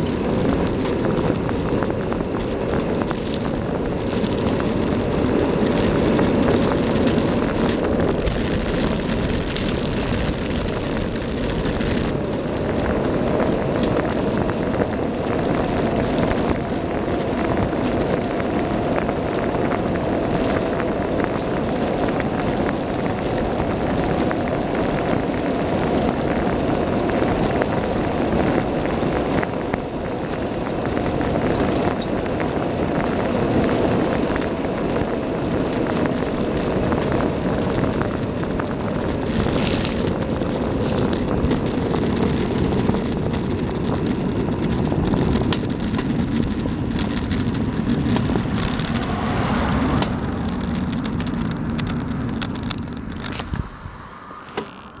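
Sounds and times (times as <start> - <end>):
bicycle tyres humming on asphalt: 0.0 - 55.0
wind rushing over microphone: 0.0 - 55.0.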